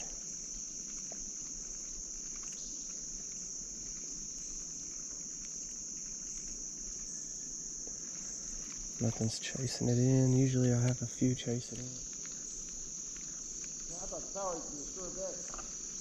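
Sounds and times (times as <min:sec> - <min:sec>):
crickets droning: 0:00.0 - 0:16.0.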